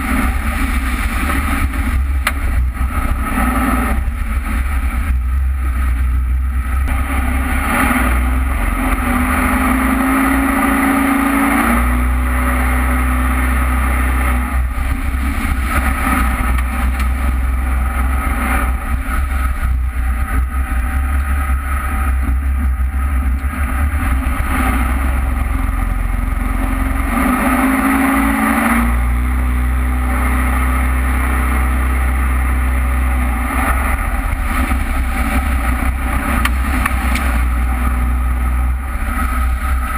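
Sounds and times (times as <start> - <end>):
boat engine drone: 0.0 - 39.9
rushing wake water: 0.0 - 39.9
wind: 0.0 - 39.9.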